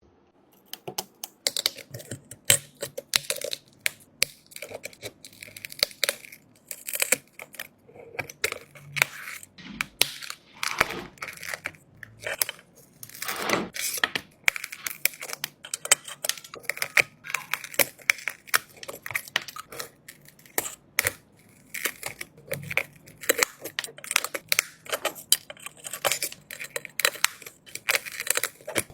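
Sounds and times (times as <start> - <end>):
small objects clicking and tapping: 0.6 - 28.9
scraping or tearing: 1.5 - 28.9.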